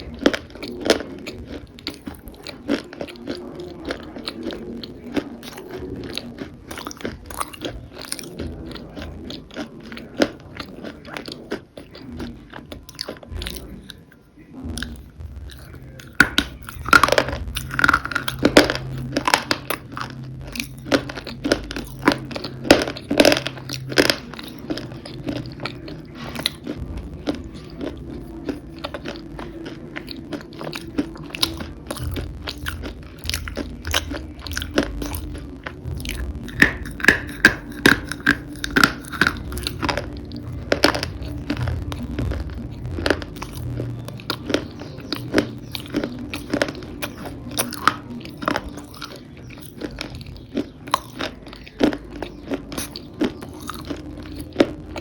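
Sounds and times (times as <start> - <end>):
crunchy food being chewed: 0.0 - 55.0.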